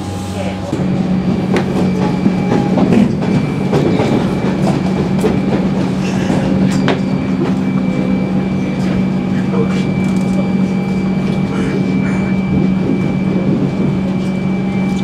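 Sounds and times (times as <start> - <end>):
train running gear hum: 0.0 - 15.0.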